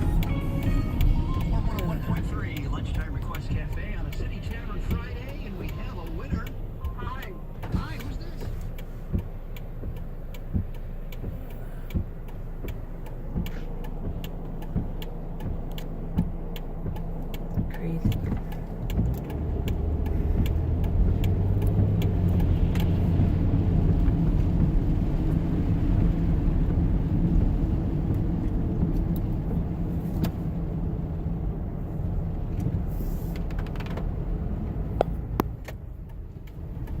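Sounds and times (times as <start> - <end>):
light clicks and ticks: 0.2 - 37.0.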